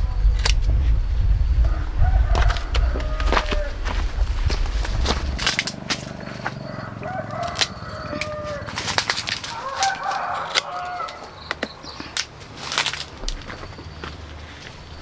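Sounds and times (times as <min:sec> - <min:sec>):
chickens calling: 0:00.0 - 0:15.0
rustling: 0:02.2 - 0:06.7, 0:07.4 - 0:15.0.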